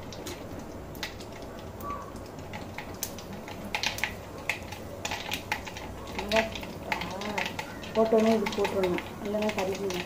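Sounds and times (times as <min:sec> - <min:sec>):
seeds popping in hot oil: 0:00.0 - 0:10.0.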